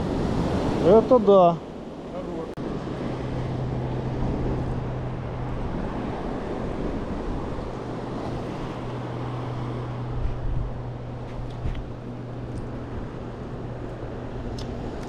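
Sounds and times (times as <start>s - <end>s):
sea surf: 0.0s - 15.0s
wind buffeting microphone: 1.7s - 15.0s
low engine-like hum: 2.2s - 15.0s.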